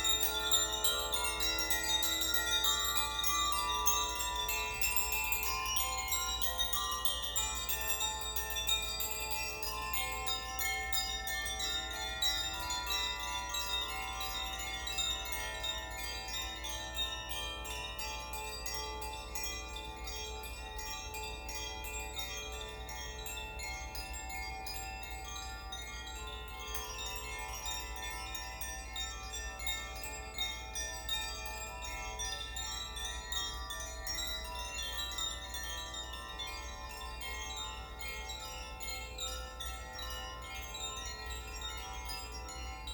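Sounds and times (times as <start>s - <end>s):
wind chimes ringing: 0.0s - 42.9s.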